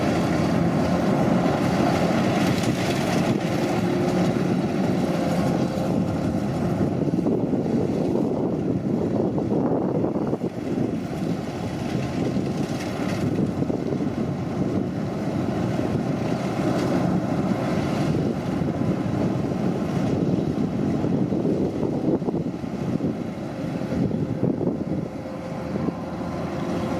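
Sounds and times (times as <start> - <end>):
machine engine rumbling: 0.0 - 26.9.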